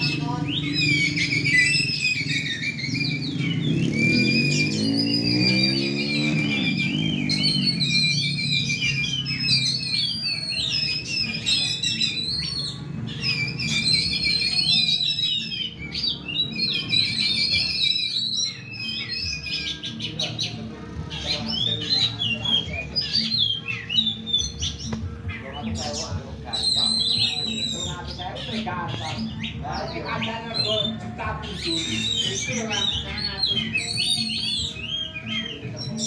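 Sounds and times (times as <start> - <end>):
birds singing whistled phrases: 0.0 - 36.0.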